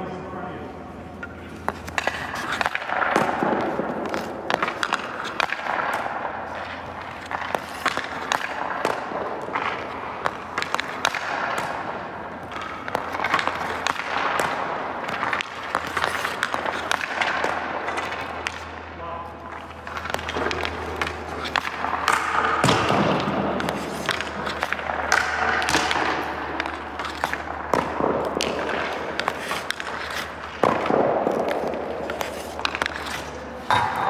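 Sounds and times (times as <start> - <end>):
hockey sticks cracking against pucks: 1.1 - 34.0
skate blades scraping ice: 1.2 - 18.8, 19.4 - 34.0
pucks smacking into boards: 1.2 - 34.0.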